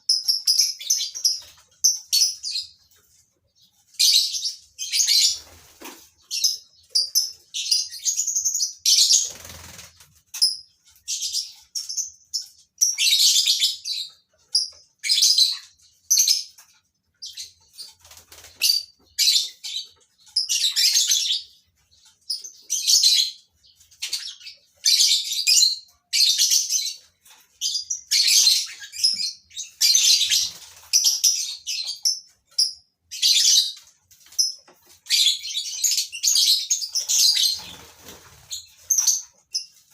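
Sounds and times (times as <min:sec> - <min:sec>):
lovebirds chirping and screeching: 0:00.0 - 0:16.6, 0:17.2 - 0:39.9.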